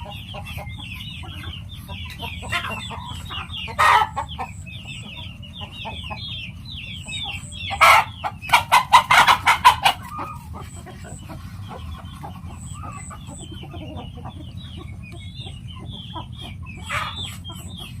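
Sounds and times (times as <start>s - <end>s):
chickens clucking: 0.0s - 18.0s
small birds chirping: 0.0s - 18.0s.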